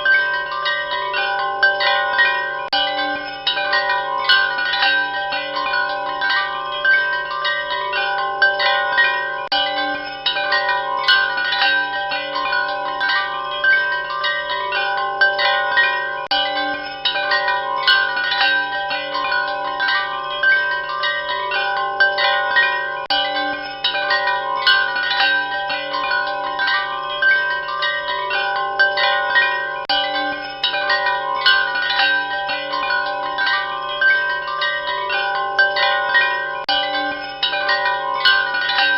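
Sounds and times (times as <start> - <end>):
wind chimes ringing: 0.0 - 38.9.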